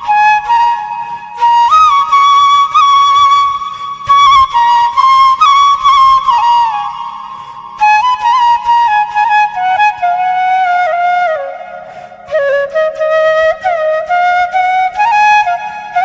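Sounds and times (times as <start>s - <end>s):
flute melody: 0.0s - 16.0s.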